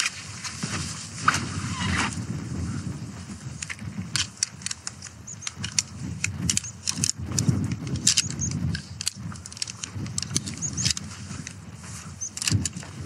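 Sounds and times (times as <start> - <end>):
tent pole sections clicking: 0.0 - 2.2, 3.2 - 13.0.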